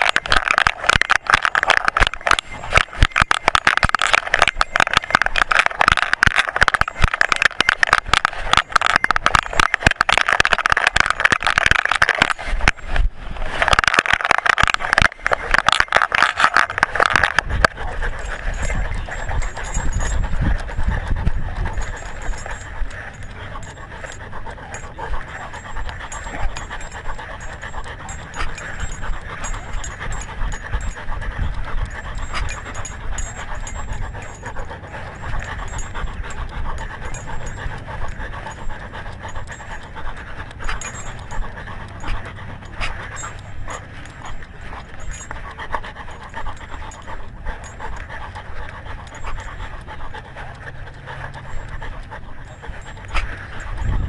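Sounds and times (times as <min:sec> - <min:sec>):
clicks: 0:00.0 - 0:54.0
dog panting: 0:00.0 - 0:54.0.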